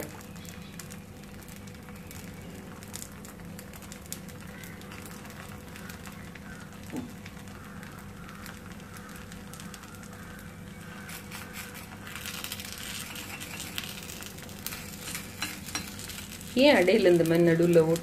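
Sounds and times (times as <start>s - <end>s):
batter sizzling on griddle: 0.0s - 18.0s.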